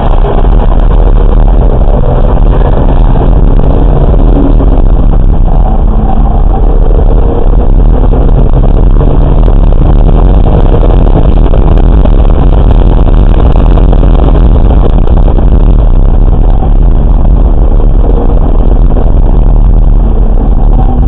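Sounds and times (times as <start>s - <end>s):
race car engine tyre and wind rumble: 0.0s - 21.0s.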